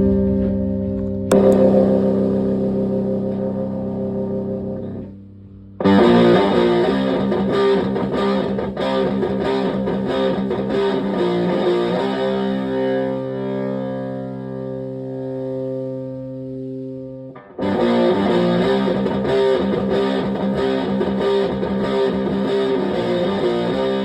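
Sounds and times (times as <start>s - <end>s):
fuzzed electric guitar: 0.0s - 24.0s.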